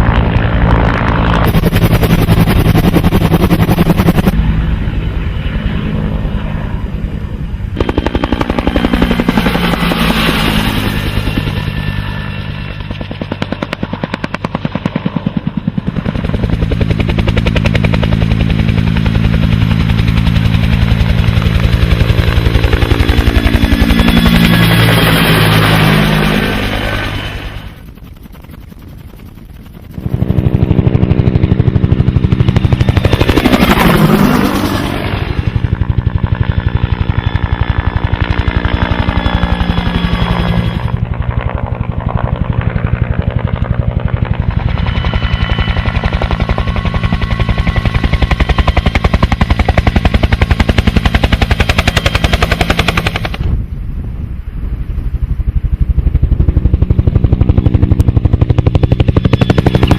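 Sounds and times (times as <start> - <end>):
aircraft engine pulsing: 0.0 - 59.9.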